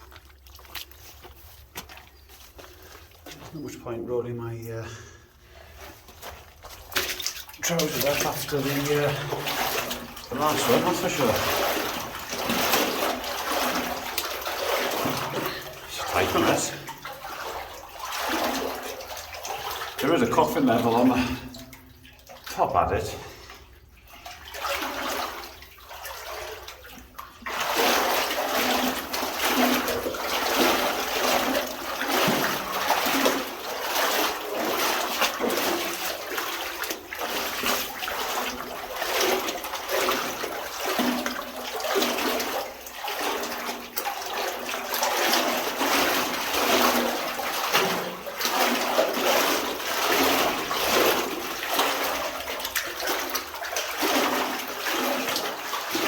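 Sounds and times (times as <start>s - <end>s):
legs wading through water: 0.0s - 4.1s, 4.9s - 56.0s.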